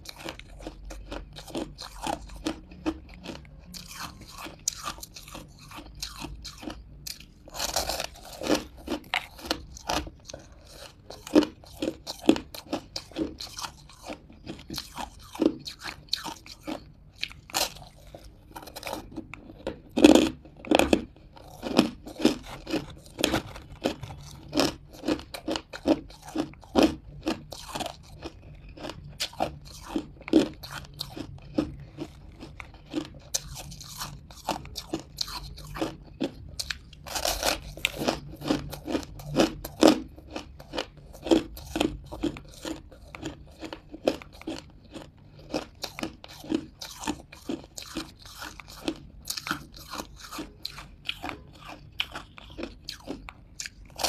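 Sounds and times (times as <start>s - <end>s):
person biting crunchy food: 0.0s - 54.0s.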